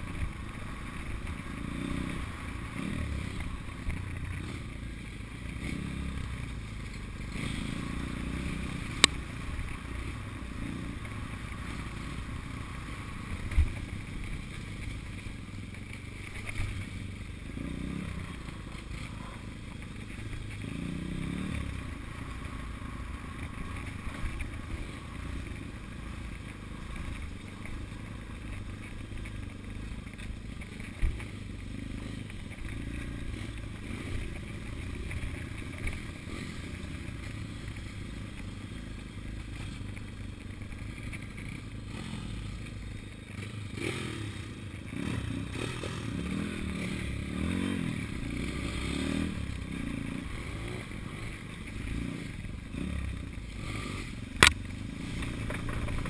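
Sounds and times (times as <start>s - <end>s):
pit bike engine running: 0.0s - 56.0s.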